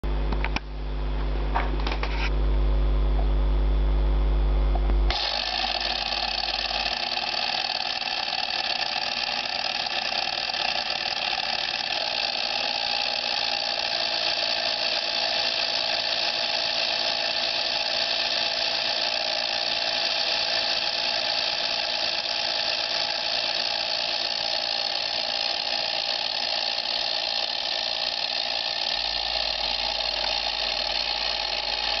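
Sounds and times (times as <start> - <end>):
lathe running with gear whir: 5.1 - 32.0.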